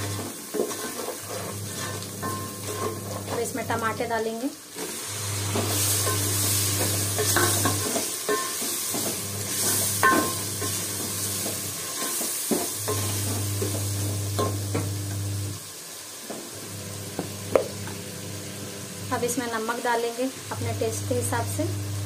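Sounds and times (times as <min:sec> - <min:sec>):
tomatoes sizzling in hot oil: 0:00.0 - 0:22.0.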